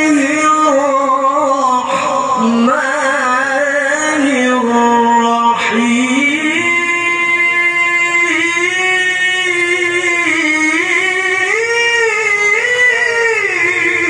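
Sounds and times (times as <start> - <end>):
man reciting melodically through microphone: 0.0 - 14.0.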